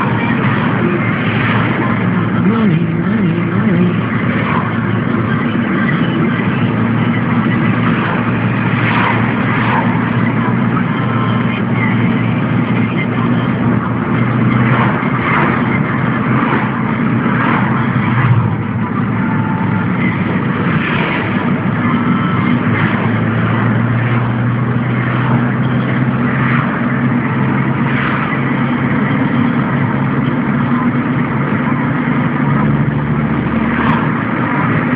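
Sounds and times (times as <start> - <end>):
car engine: 0.0 - 34.9
tyres on road: 0.0 - 34.9.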